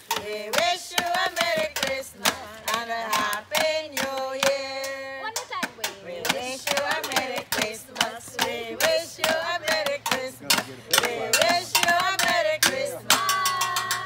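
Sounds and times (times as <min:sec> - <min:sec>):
sharp steady beat: 0:00.0 - 0:14.0
woman singing: 0:00.1 - 0:14.0.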